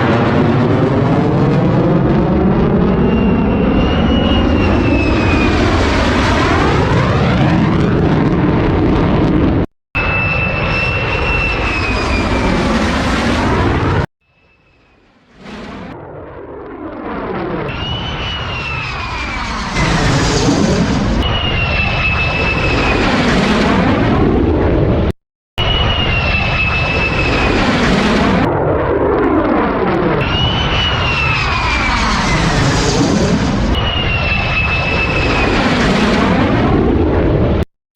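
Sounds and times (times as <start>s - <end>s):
fighter jet roar with whine: 0.0s - 14.1s, 14.7s - 37.6s.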